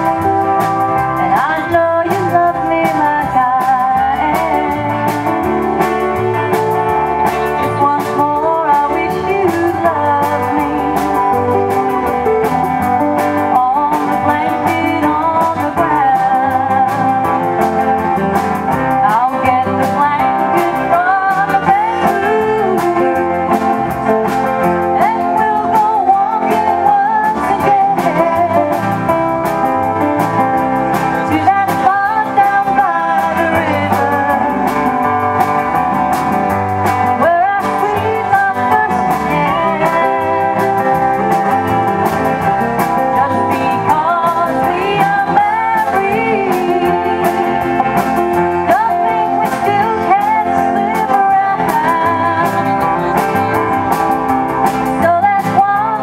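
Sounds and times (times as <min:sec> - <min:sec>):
live country band playing: 0:00.0 - 0:56.0.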